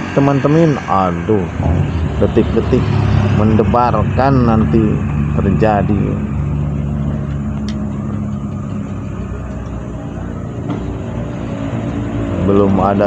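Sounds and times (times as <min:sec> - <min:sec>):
passing traffic: 0:00.0 - 0:13.0
vehicle engine humming: 0:00.0 - 0:13.0.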